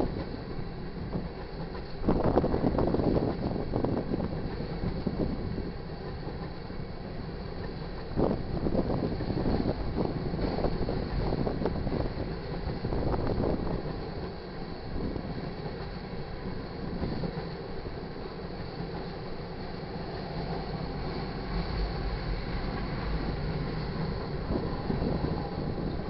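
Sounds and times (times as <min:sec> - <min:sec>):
train wheels rumbling on track: 0:00.0 - 0:26.0
wheels clacking over rail joints: 0:00.0 - 0:26.0.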